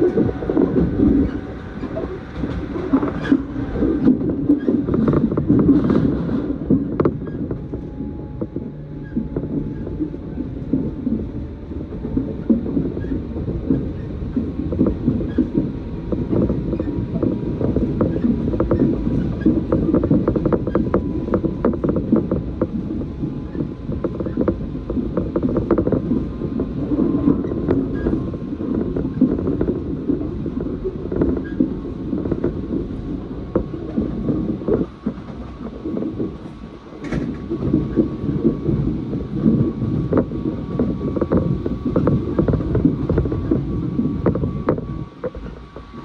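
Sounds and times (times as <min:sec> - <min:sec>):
train running rumble: 0:00.0 - 0:46.0
wheels clicking over track: 0:00.0 - 0:46.0.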